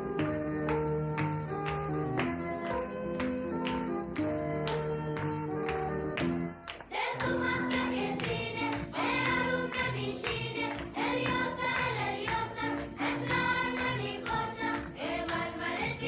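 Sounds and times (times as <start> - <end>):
music with singing voices: 0.0 - 16.0.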